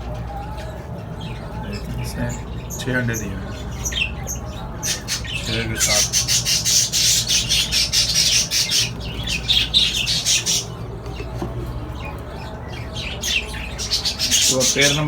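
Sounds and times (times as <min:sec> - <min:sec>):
parrots chattering and squawking: 0:00.0 - 0:15.0
steady low hum: 0:00.0 - 0:15.0.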